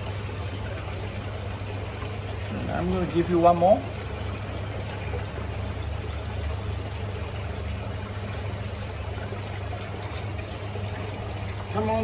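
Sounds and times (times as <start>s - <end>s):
aquarium pump humming: 0.0s - 12.0s
moving water: 0.0s - 12.0s.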